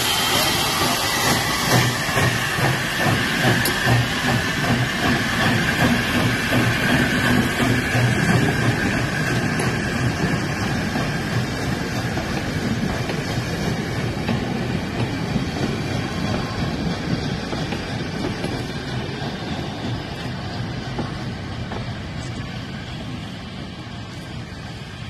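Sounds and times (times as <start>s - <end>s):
steam hissing: 0.0s - 25.0s
steam locomotive chuffing: 0.0s - 25.0s.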